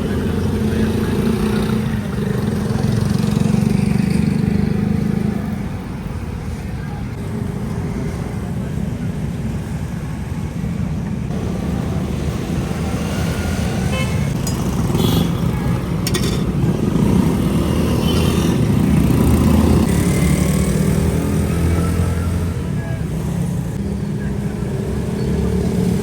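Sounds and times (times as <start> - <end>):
passing traffic rumble: 0.0 - 26.0.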